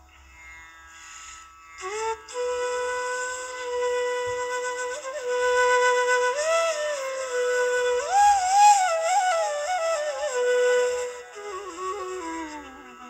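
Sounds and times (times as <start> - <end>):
flute melody: 1.8 - 13.0.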